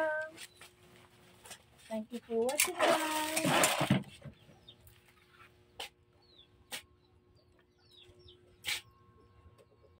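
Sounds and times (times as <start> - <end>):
faint birds chirping: 0.0 - 2.5, 4.1 - 10.0.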